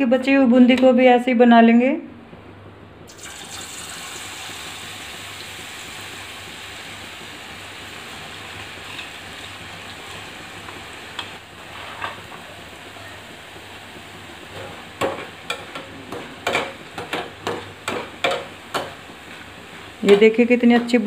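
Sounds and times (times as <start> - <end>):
batter sizzling in hot oil: 3.1 - 21.0.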